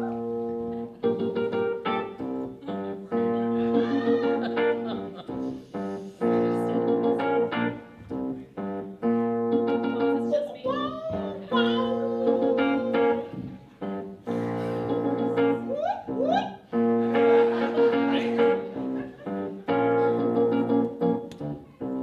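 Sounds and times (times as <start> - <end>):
electric keyboard chords: 0.0 - 22.0.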